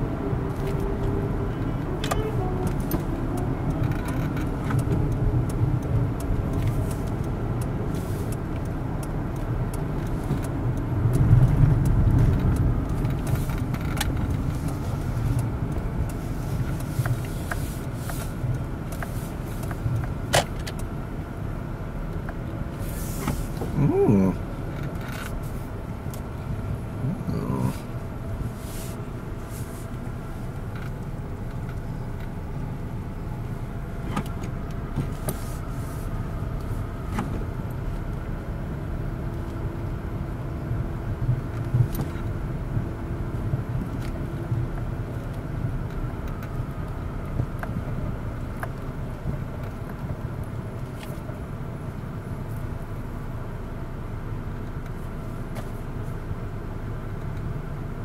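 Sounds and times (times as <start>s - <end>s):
car engine rumble: 0.0s - 58.0s
road noise: 0.0s - 58.0s.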